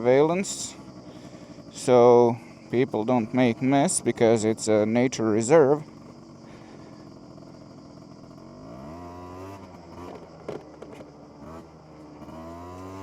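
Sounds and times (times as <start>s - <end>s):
scooter engine revving: 0.0s - 4.9s, 5.8s - 13.0s.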